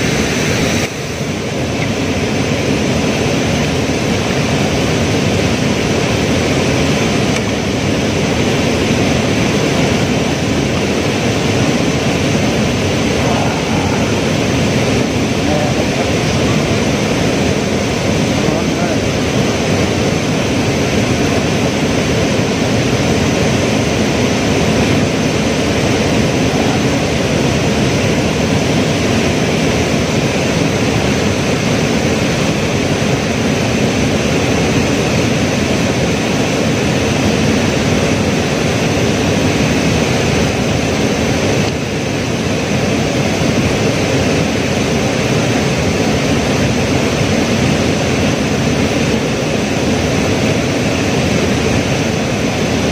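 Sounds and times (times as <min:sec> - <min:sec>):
loud rushing river water: 0:00.0 - 0:52.9.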